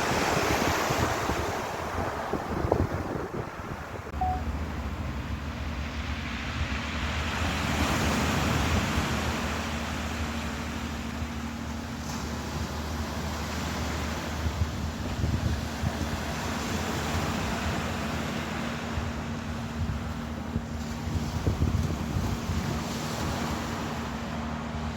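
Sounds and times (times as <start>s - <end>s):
ocean waves washing in: 0.0s - 24.9s.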